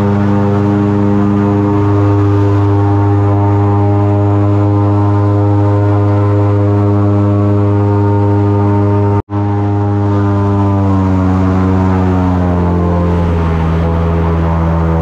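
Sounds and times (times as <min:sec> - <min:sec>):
airboat engine and propeller drone: 0:00.0 - 0:15.0.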